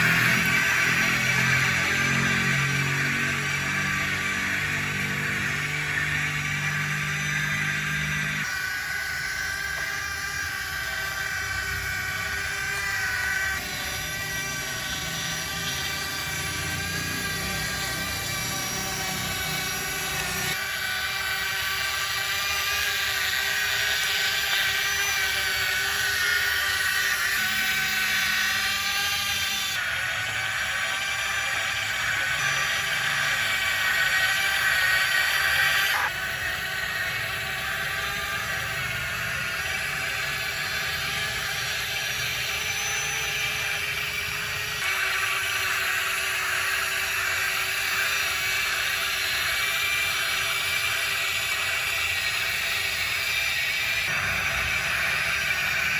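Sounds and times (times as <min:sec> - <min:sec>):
excavator drive motors whining: 0:00.0 - 0:55.9.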